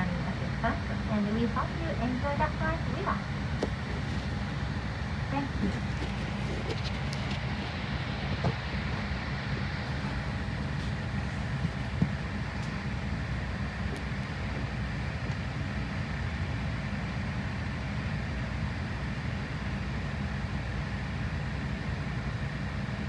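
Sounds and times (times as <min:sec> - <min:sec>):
airliner cabin hum and rushing air: 0:00.0 - 0:23.0.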